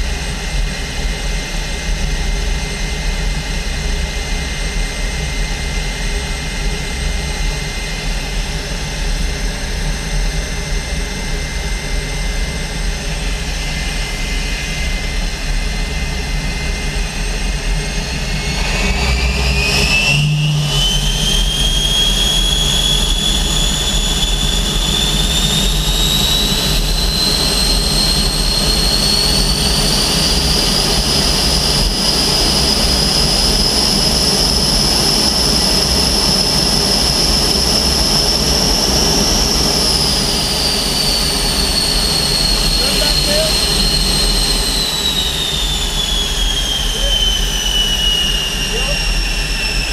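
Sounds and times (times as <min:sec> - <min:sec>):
jet engine whine: 0:00.0 - 0:49.9.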